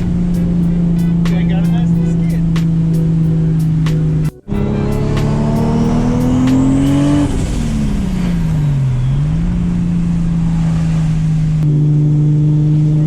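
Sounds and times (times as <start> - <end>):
car engine revving: 0.0 - 13.0
engine droning: 0.0 - 13.0.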